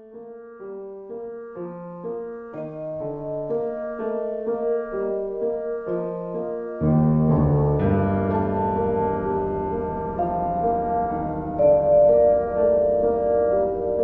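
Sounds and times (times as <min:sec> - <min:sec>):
keyboard playing steady notes: 0:00.0 - 0:14.0.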